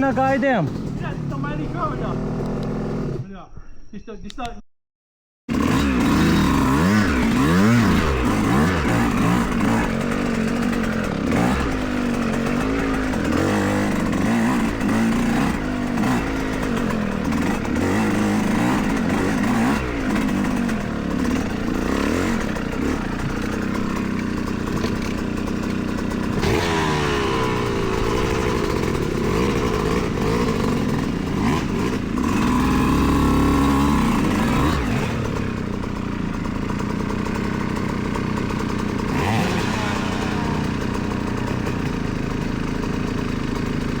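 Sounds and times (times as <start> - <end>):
dirt bike engine revving: 0.0 - 3.3, 5.5 - 44.0.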